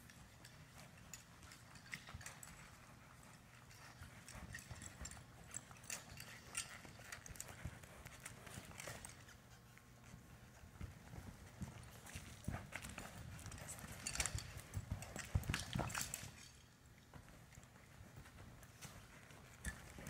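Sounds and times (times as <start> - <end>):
hoofbeats on soft dirt: 0.0 - 20.0.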